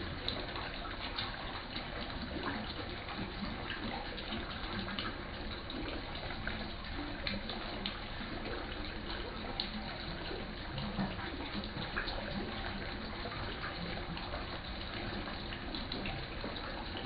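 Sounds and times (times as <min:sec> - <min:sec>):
water splashing into pond: 0:00.0 - 0:17.0.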